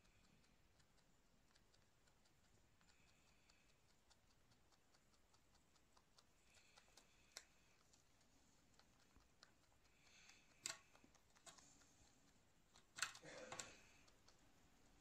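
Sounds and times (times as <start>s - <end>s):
rabbit chewing hay: 0.0s - 15.0s.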